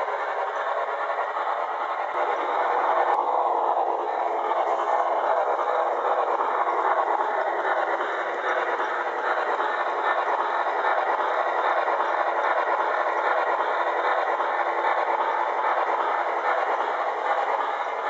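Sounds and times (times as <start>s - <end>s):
model train rushing noise: 0.0s - 18.0s.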